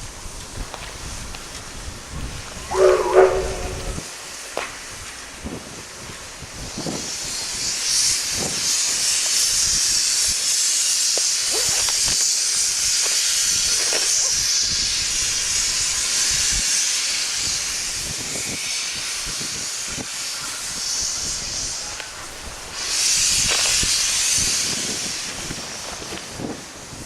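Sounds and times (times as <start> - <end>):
steam locomotive hissing steam: 0.0 - 27.0.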